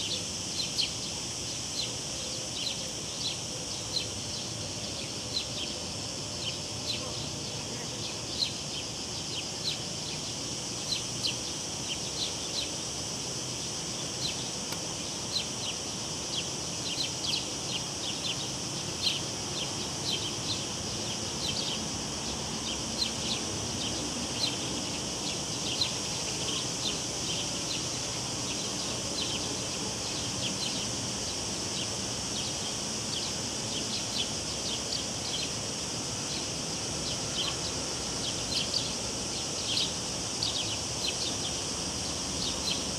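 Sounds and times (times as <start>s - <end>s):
cicadas droning: 0.0s - 42.9s
low background hiss: 0.0s - 42.9s.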